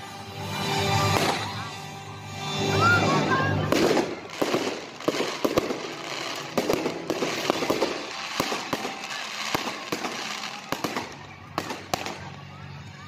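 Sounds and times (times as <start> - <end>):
fireworks crackle: 0.0 - 13.0
fireworks bangs: 0.6 - 1.8, 2.7 - 12.5.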